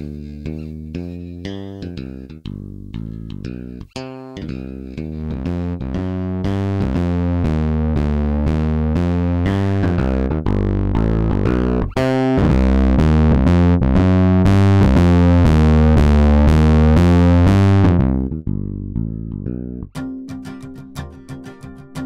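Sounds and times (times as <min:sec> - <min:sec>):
distorted looping bass line: 0:00.0 - 0:20.0.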